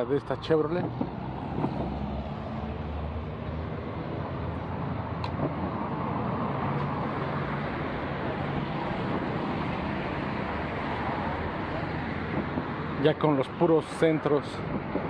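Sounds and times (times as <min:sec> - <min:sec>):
rush of traffic noise: 0:00.0 - 0:15.0.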